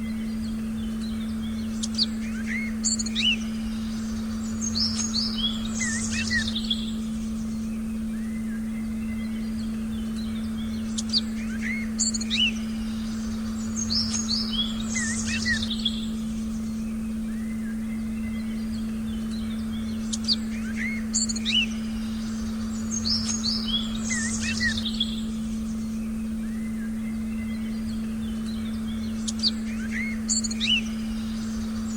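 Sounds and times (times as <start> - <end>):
songbirds chirping: 0.0 - 31.9
steady low tone: 0.0 - 31.9.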